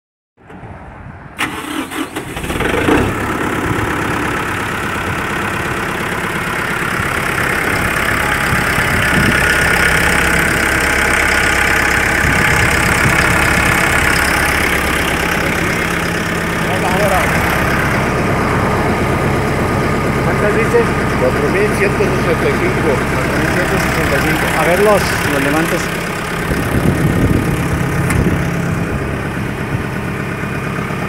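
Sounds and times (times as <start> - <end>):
diesel tractor engine starting: 0.5 - 31.0
diesel engine idling: 1.4 - 31.0.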